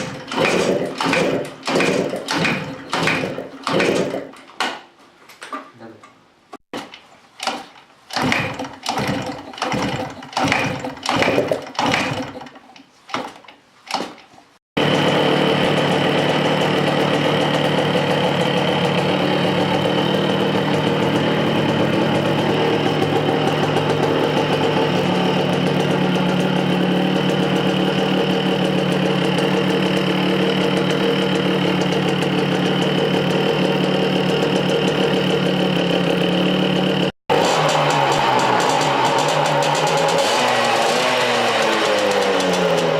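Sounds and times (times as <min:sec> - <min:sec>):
motorcycle engine sputtering and idling: 0:00.0 - 0:04.4, 0:07.5 - 0:12.6, 0:14.8 - 0:42.9.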